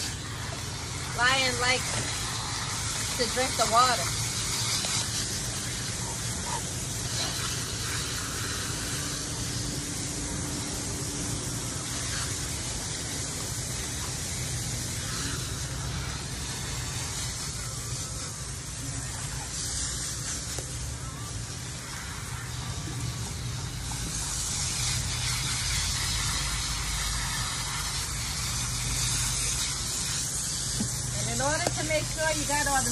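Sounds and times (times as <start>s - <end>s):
hose spraying water: 0.0s - 32.9s
water splashing on wet concrete: 0.0s - 32.9s.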